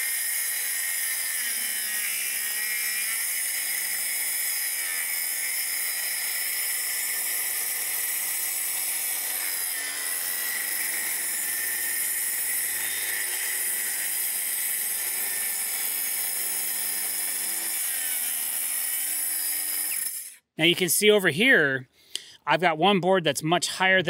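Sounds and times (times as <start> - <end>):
circular saw cutting boards: 0.0 - 20.4.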